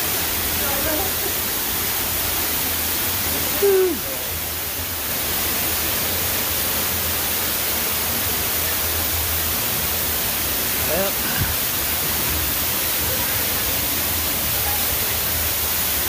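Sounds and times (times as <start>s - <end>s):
running water echoing in a cave: 0.0s - 16.0s.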